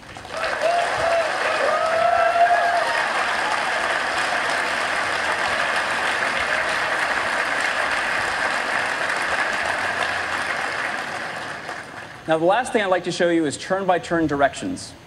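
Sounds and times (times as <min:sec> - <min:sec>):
large audience applauding: 0:00.0 - 0:12.4.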